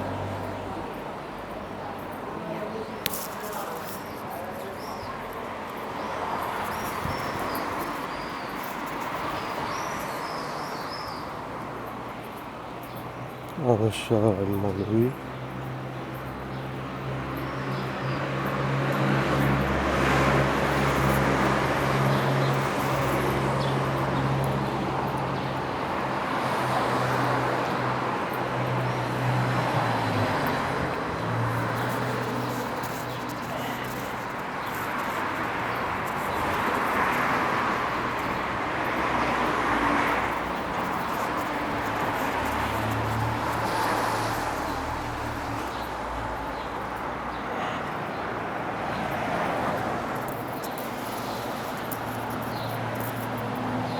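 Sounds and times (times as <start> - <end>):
cars passing: 0.0 - 53.9.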